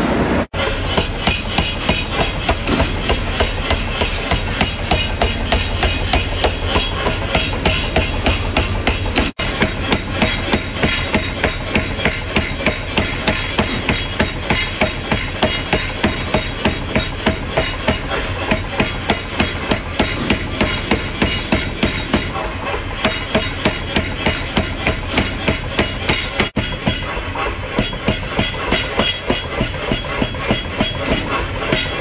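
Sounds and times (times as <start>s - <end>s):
power hammer pounding metal: 0.5s - 32.0s.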